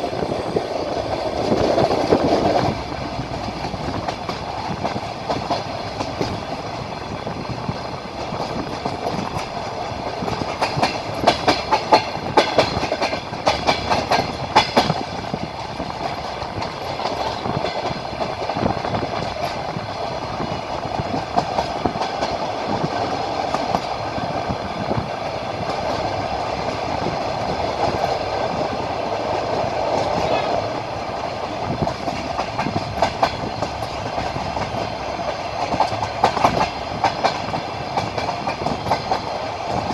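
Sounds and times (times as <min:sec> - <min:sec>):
moving train running noise: 0:00.0 - 0:39.9
train wheels clattering over joints: 0:00.0 - 0:39.9.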